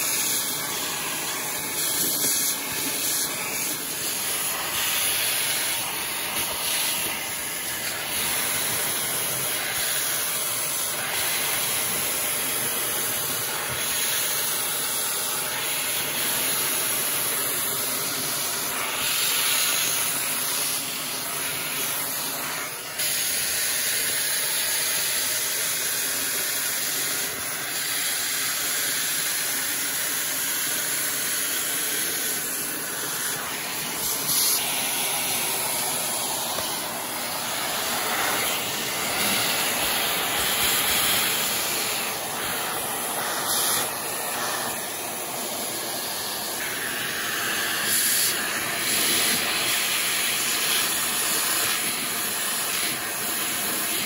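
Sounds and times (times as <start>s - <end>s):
vacuum cleaner suction hiss: 0.0s - 54.0s.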